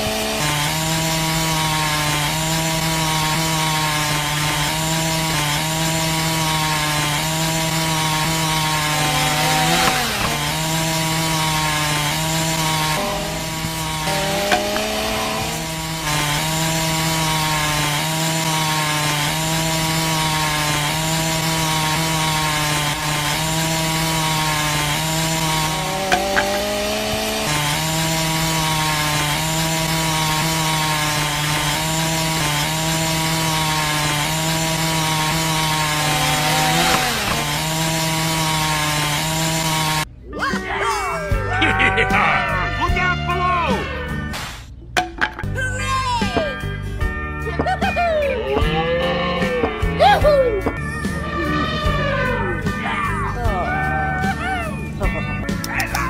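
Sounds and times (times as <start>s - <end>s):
small circular saw cutting wood: 0.0s - 40.1s, 46.3s - 56.0s.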